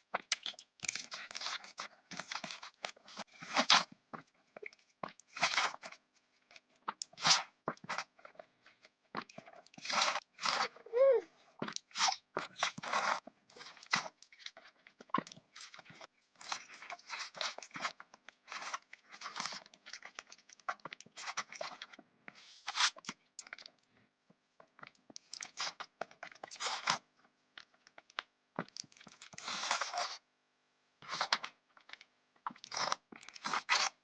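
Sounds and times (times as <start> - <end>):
crunchy sweets being chewed: 0.1 - 24.0, 24.6 - 30.2, 31.0 - 34.0.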